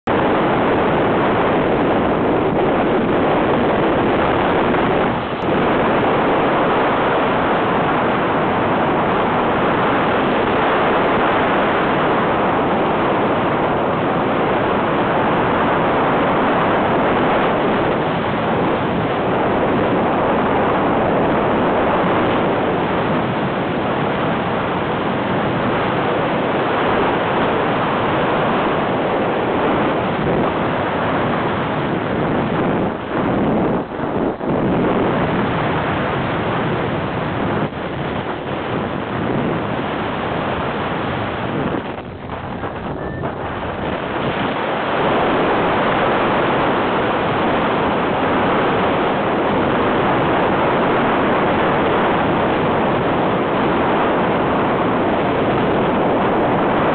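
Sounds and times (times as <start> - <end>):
wind rushing over microphone: 0.0 - 56.9.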